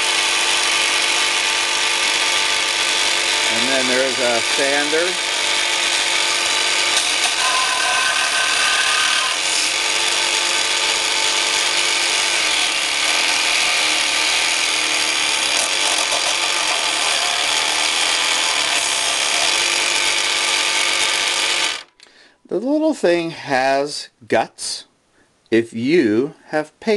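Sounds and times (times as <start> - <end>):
jigsaw motor whine: 0.0 - 22.0.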